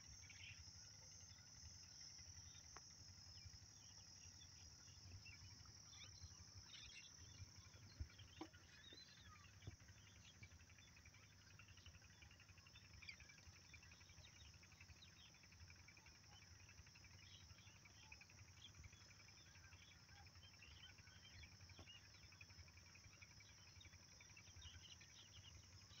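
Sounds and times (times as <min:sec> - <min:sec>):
insects chirring: 0:00.0 - 0:26.0
bird chirps: 0:02.1 - 0:26.0.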